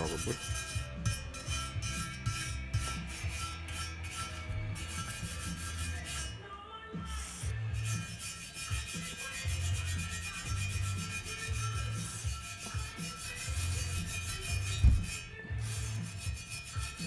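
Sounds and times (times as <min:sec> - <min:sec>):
brush scrubbing on metal: 0:00.0 - 0:06.4, 0:07.1 - 0:17.0.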